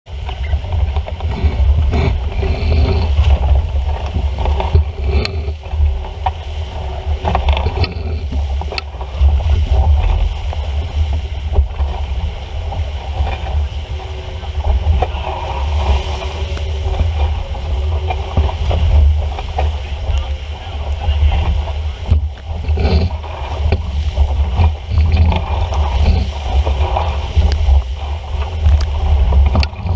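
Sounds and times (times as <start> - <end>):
boat knocks and clicks: 0.1 - 29.9
water rushing along hull: 0.1 - 29.9
wind buffeting microphone: 0.1 - 29.9.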